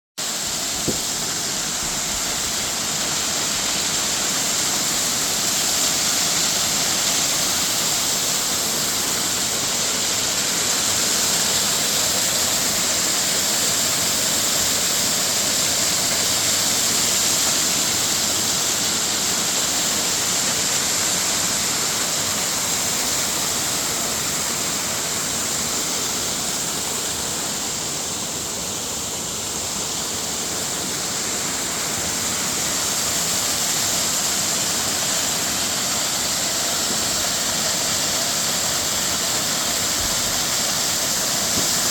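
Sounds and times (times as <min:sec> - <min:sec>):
waterfall rushing: 0:00.2 - 0:41.9.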